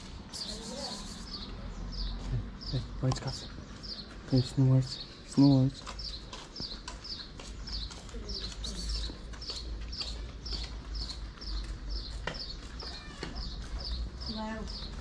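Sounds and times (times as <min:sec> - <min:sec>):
small bird chirping: 0:00.3 - 0:15.0.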